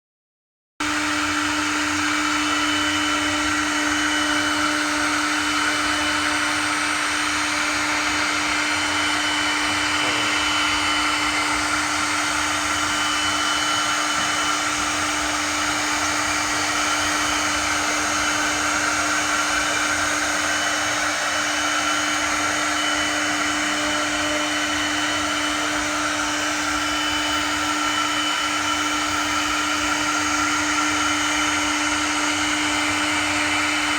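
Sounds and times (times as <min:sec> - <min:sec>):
router spindle motor whine: 0:00.8 - 0:33.9.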